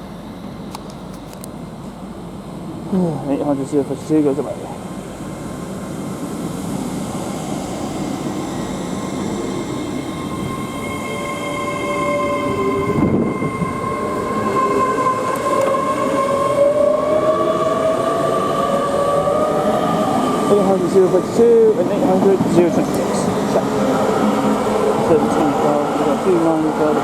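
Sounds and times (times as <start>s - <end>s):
train drive whine: 0.0s - 27.0s
wheels rumbling on rail: 0.0s - 27.0s.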